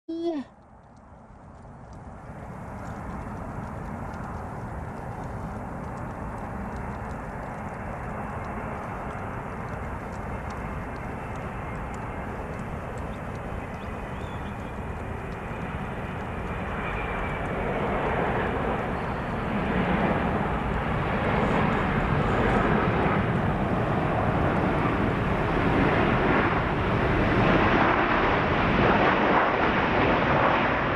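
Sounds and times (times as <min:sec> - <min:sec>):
jet engines roaring: 0:01.5 - 0:30.9.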